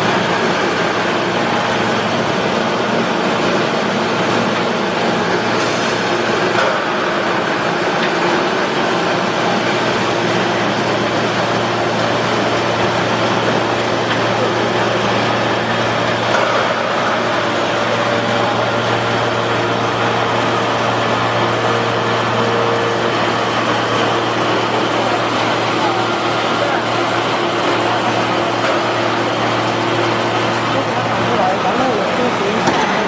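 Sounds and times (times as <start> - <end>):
scrap metal baler running: 0.0 - 33.0.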